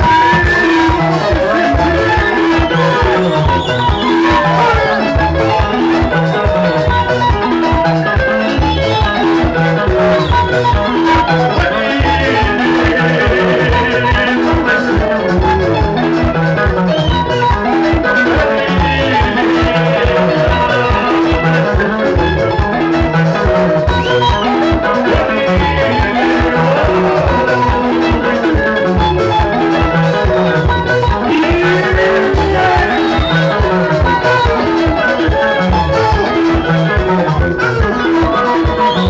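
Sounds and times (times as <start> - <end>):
bass guitar: 0.0 - 39.0
drum kit dance beat: 0.0 - 39.0
electric guitar lines: 0.0 - 39.0.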